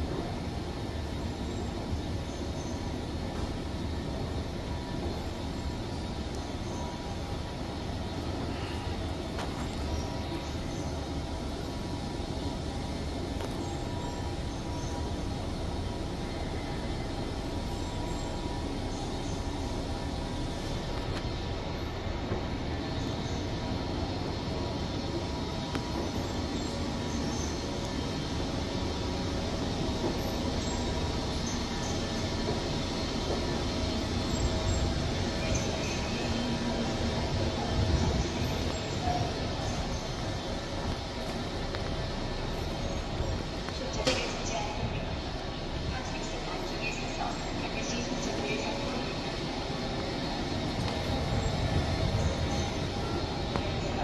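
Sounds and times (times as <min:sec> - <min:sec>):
escalator mechanical running noise: 0:00.0 - 0:54.0.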